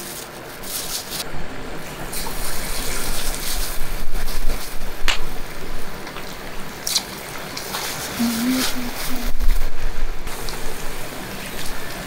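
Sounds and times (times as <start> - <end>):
chicken deep-frying in oil: 1.8 - 12.0.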